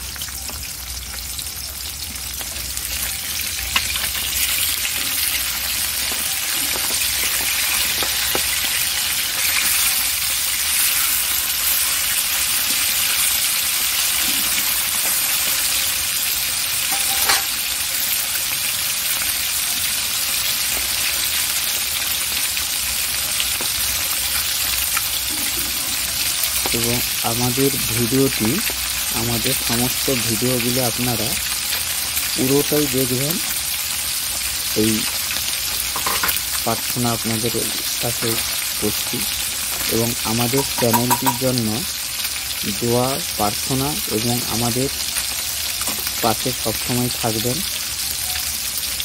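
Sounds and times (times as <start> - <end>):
fish sizzling in hot oil: 0.0 - 49.0.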